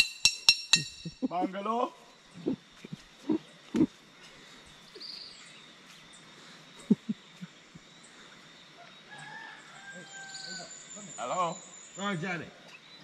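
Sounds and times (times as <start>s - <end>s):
bird chirp: 0.0s - 13.0s
high insect drone: 0.0s - 13.0s.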